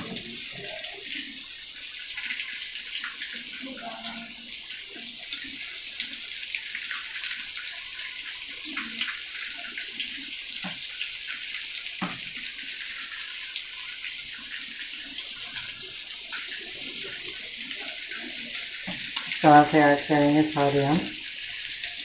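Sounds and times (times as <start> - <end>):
chicken frying in oil: 0.0 - 22.0.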